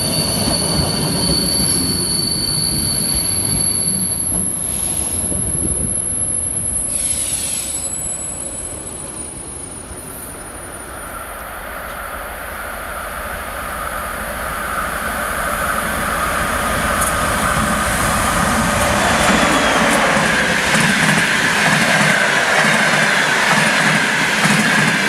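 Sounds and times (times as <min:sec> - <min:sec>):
electric train high-pitched whine: 0:00.0 - 0:25.0
passenger train rumble: 0:00.0 - 0:25.0.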